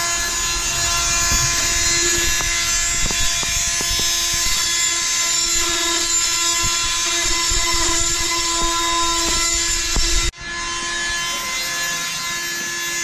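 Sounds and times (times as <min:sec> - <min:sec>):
power sander whining: 0:00.0 - 0:13.0.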